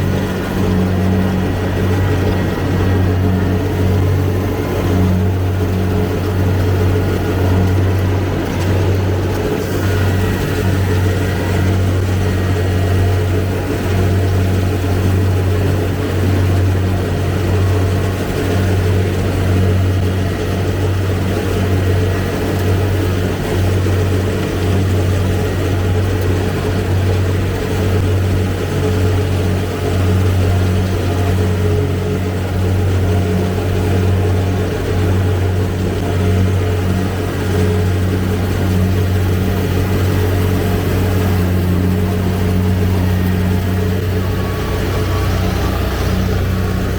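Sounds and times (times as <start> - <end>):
combine harvester diesel engine: 0.0 - 46.9.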